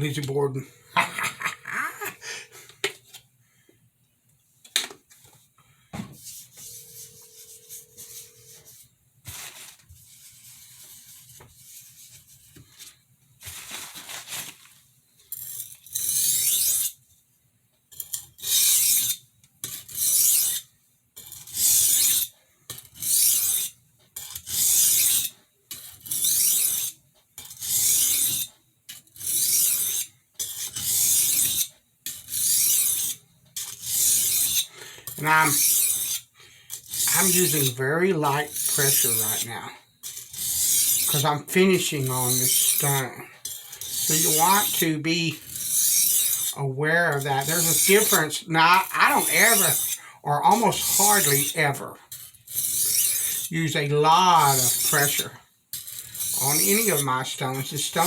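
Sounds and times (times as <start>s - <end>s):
knife scraping on whetstone: 6.2s - 12.9s, 15.3s - 17.0s, 17.9s - 53.5s, 54.2s - 58.0s.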